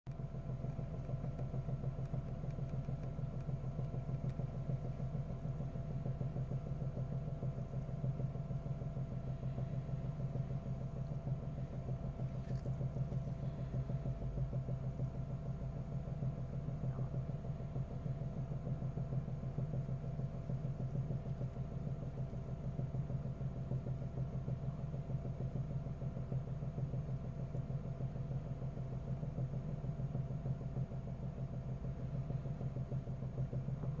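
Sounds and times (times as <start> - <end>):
car engine idling: 0.1 - 34.0
engine knock: 0.1 - 34.0.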